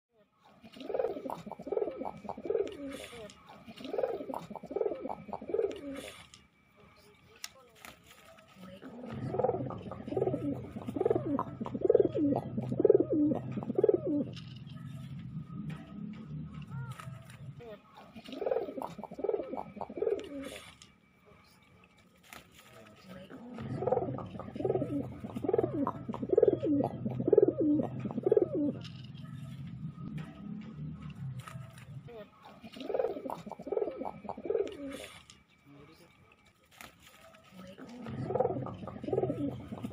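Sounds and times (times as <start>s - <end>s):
pigeon cooing: 0.5s - 6.5s, 8.7s - 21.0s, 23.2s - 35.4s, 37.6s - 39.9s
low steady hum: 0.7s - 21.9s, 22.9s - 36.1s.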